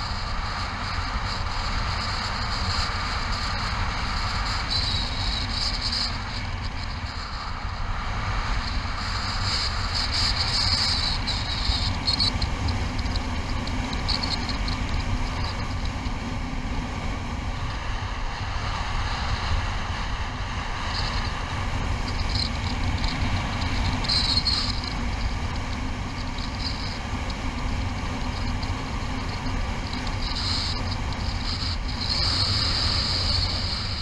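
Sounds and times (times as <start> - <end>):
hissy wind gusts: 0.0 - 34.0
wind rumble on microphone: 0.0 - 34.0.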